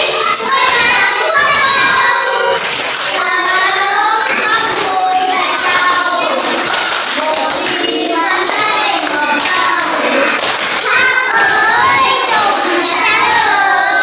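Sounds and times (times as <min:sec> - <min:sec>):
children clapping hands: 0:00.0 - 0:14.0
children singing: 0:00.0 - 0:14.0.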